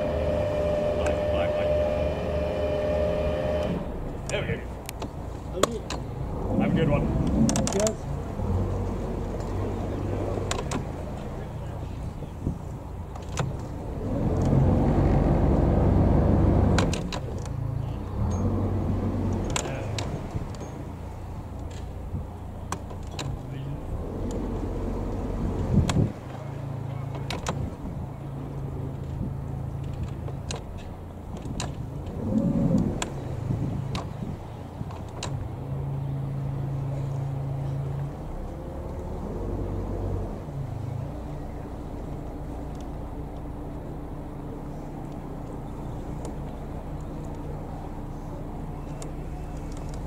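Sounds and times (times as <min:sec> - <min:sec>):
boat diesel engine running: 0:00.0 - 0:50.0.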